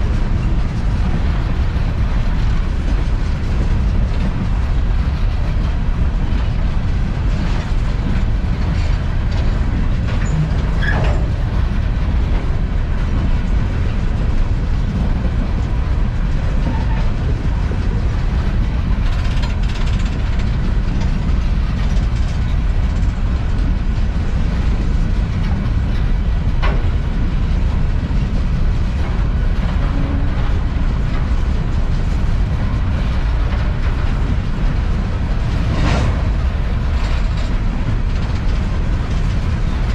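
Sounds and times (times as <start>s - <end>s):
train clanks and squeals: 0.0s - 39.9s
train rumbling on rails: 0.0s - 39.9s.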